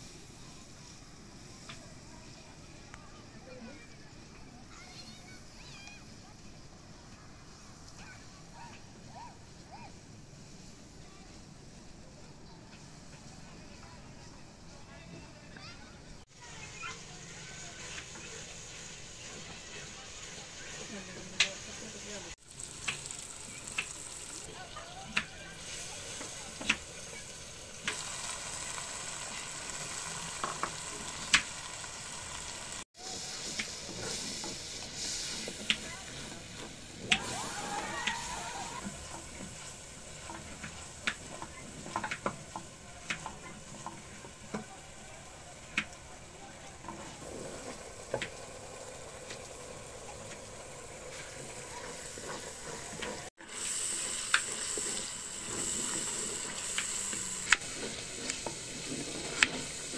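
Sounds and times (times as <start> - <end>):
spices sizzling in a pot: 0.0 - 59.9.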